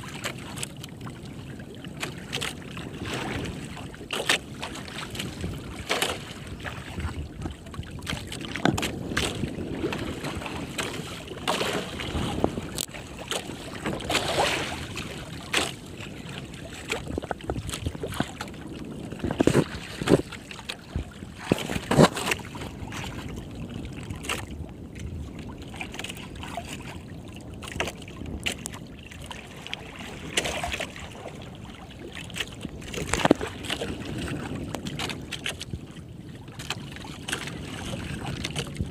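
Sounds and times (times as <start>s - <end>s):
water slapping against boat hull: 0.0s - 38.9s.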